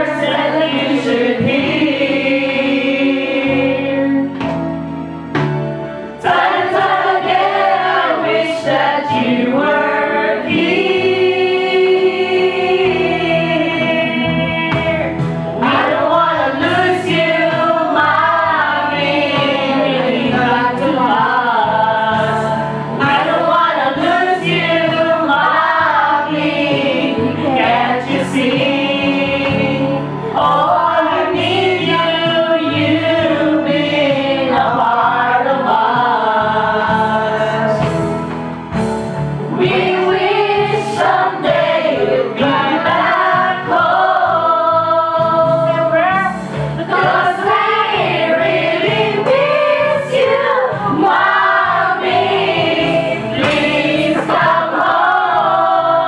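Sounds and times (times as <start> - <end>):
group singing: 0.0 - 56.0
musical accompaniment: 0.0 - 56.0.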